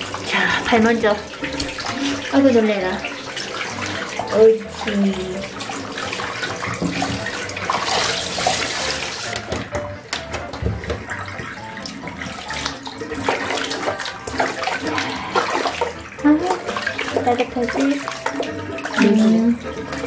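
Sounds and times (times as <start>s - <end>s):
bath water splashing: 0.0s - 20.0s.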